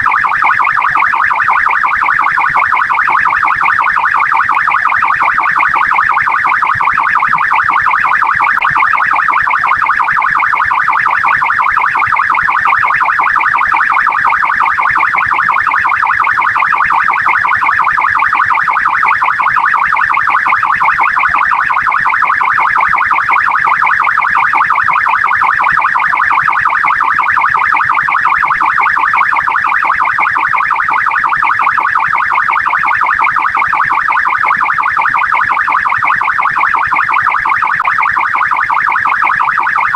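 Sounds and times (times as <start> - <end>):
police car siren warbling: 0.0 - 39.9.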